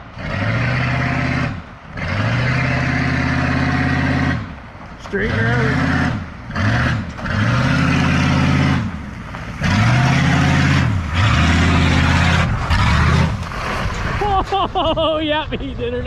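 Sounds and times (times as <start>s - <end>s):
truck engine revving: 0.0s - 14.9s.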